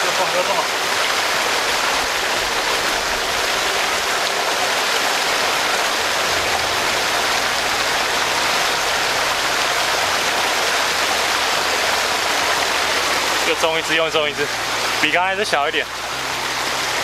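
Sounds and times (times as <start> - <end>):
water rushing into ditch: 0.0 - 17.0.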